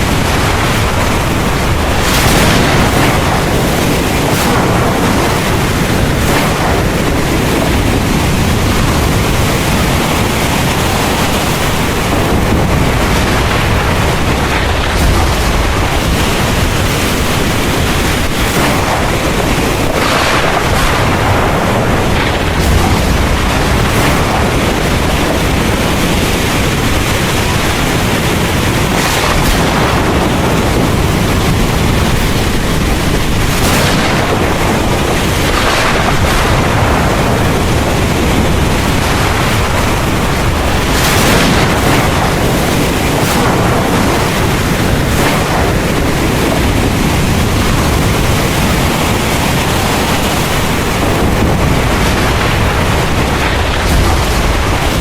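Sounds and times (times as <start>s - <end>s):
heavy rain falling: 0.0s - 55.0s
low rumbling thunder: 0.0s - 55.0s.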